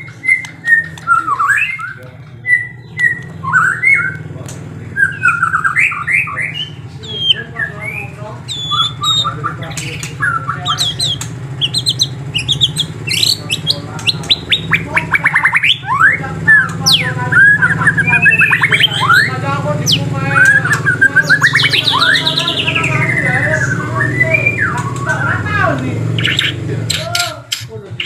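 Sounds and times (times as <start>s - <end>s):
songbirds chirping and singing: 0.0s - 28.0s.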